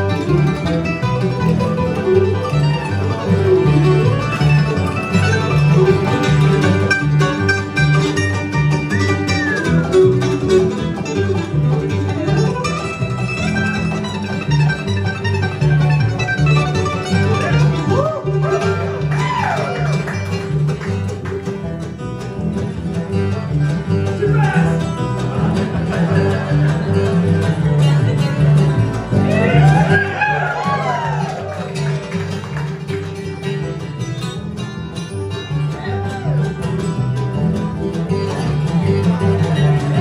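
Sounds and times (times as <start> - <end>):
bluegrass band playing: 0.0 - 40.0
mandolin picking: 0.0 - 40.0.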